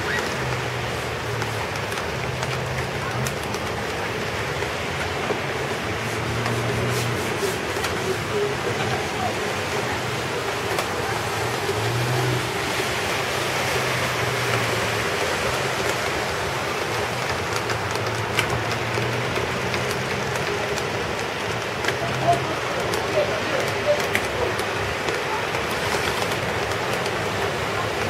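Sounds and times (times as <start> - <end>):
car engine humming: 0.0 - 28.0
heavy rain: 0.0 - 28.0
running flood water: 0.0 - 28.0.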